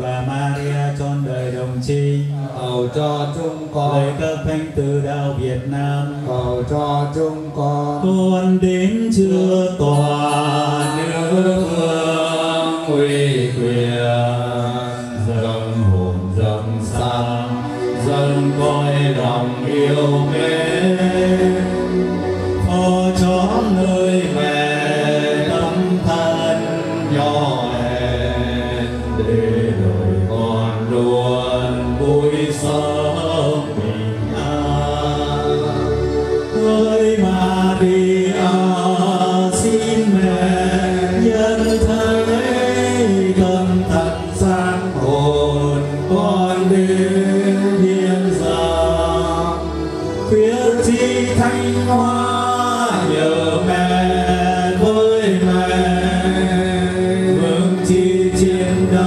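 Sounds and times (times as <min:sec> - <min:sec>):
slow chanted singing: 0:00.0 - 0:59.0
sustained instrumental accompaniment: 0:00.0 - 0:59.0.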